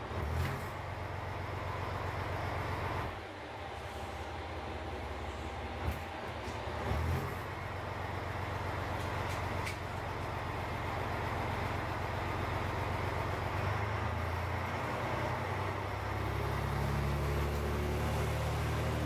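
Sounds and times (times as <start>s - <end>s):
diesel railcar engine drone: 0.0s - 19.0s.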